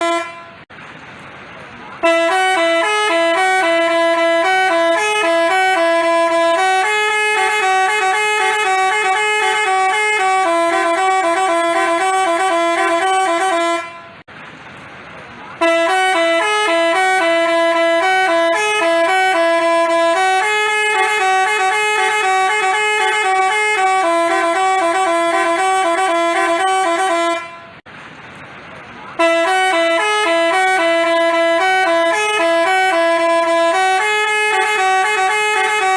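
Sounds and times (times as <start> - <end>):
multi-tone bus horn melody: 0.0 - 0.7, 2.0 - 14.3, 15.6 - 27.9, 29.1 - 35.9.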